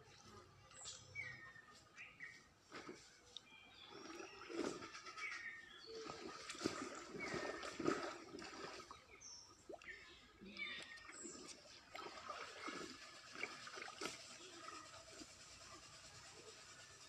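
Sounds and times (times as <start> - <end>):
water splashing and trickling: 2.6 - 17.0.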